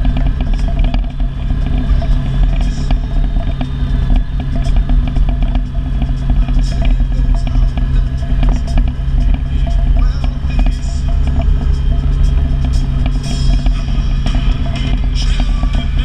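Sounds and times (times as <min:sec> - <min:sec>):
gravel clattering under tyres: 0:00.0 - 0:16.0
vehicle engine running: 0:00.0 - 0:16.0.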